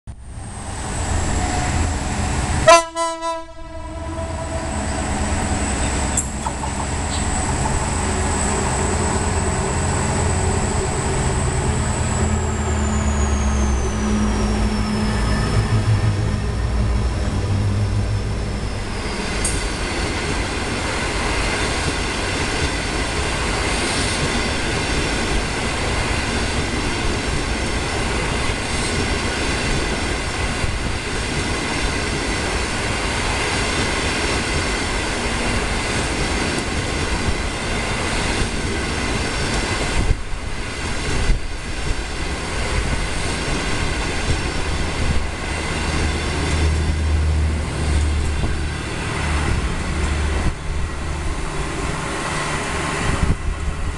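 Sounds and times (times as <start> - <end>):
train wheels rumbling: 0.2 - 53.9.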